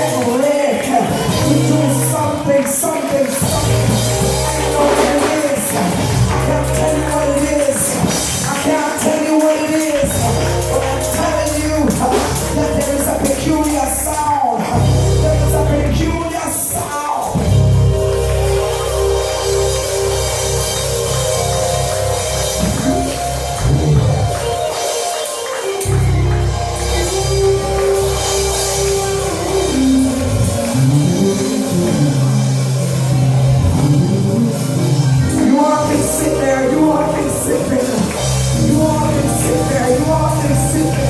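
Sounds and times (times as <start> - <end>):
bass line: 0.0 - 16.7, 17.3 - 24.9, 25.6 - 41.0
drum kit playing: 0.0 - 41.0
electric keyboard chords: 0.0 - 41.0.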